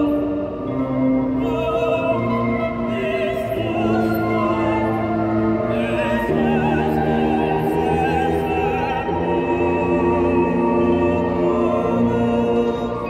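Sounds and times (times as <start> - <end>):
choir singing: 0.0 - 13.0
wind band playing: 0.0 - 13.0.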